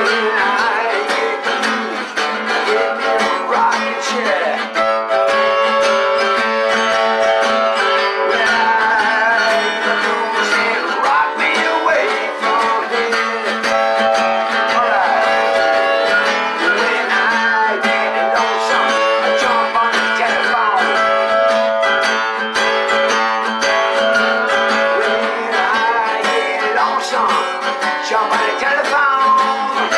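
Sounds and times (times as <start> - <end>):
harmonica bending notes: 0.0 - 29.9
strummed acoustic guitar: 0.0 - 29.9.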